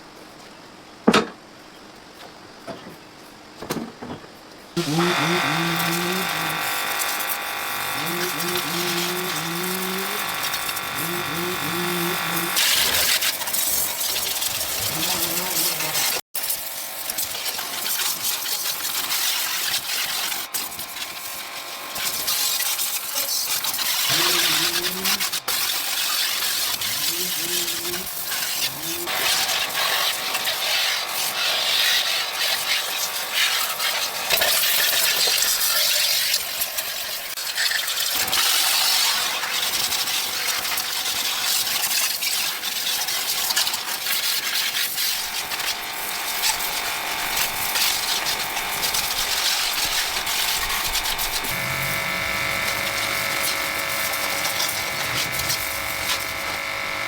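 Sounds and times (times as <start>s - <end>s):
small electric motor humming: 4.8s - 37.4s, 38.1s - 57.0s.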